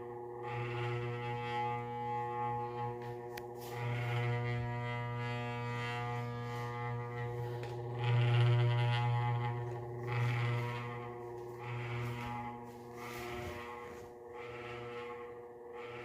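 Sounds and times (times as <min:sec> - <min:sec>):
fan motor humming: 0:00.0 - 0:16.0.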